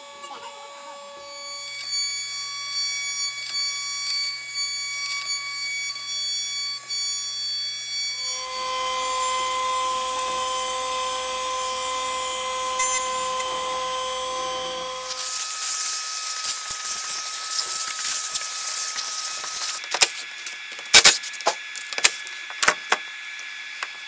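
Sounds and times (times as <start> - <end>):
end mill cutting metal: 0.0 - 19.9
router spindle whining: 0.0 - 20.8.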